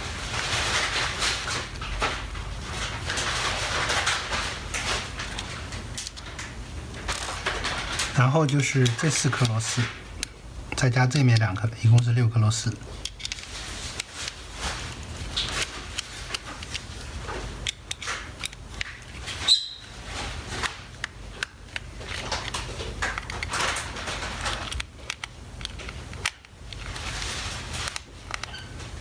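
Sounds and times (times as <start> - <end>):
scraping rustles on plastic: 0.0 - 29.0.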